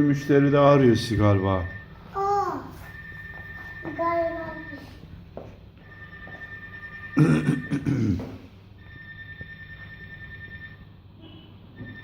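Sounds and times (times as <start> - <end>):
phone ringtone: 0.4 - 5.0, 5.8 - 7.8, 8.8 - 12.0.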